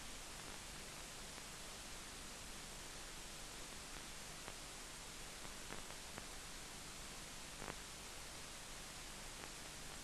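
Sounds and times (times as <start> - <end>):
faint low hum: 0.0 - 10.0
recording hiss: 0.0 - 10.0.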